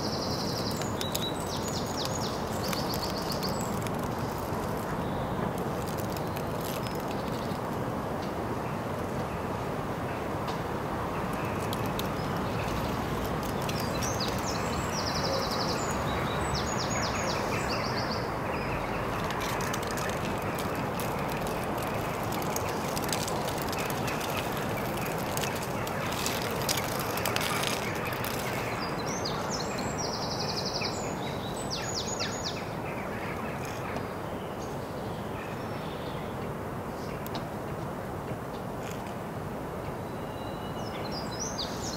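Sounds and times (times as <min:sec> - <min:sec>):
songbird singing a trill: 0:00.0 - 0:07.6, 0:11.2 - 0:37.3, 0:39.9 - 0:41.9
outdoor background noise: 0:00.0 - 0:41.9.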